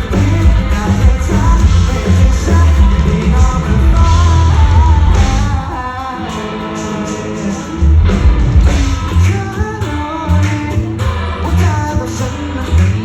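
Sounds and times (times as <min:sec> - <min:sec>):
person singing: 0:00.0 - 0:13.0
pop-rock band playing live: 0:00.0 - 0:13.0.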